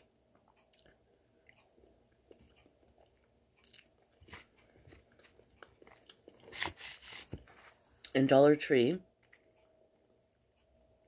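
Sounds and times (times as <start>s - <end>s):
faint chewing with soft crunches: 0.0s - 8.2s, 9.0s - 11.0s.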